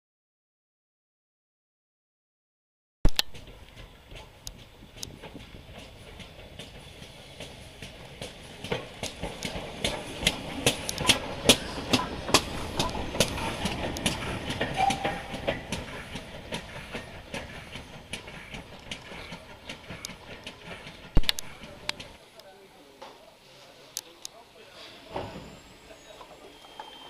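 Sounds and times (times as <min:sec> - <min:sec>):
train wheels clicking over rail joints: 0:03.1 - 0:23.3, 0:24.0 - 0:27.0.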